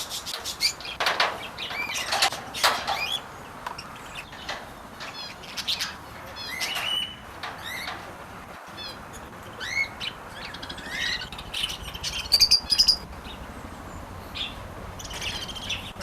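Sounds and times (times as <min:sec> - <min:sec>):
loud squawking calls: 0:00.0 - 0:16.0
small birds chirping: 0:00.0 - 0:16.0.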